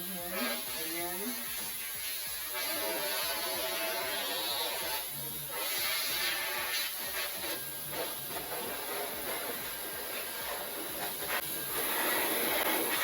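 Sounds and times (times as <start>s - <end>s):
electric air duster blowing: 0.0s - 13.0s.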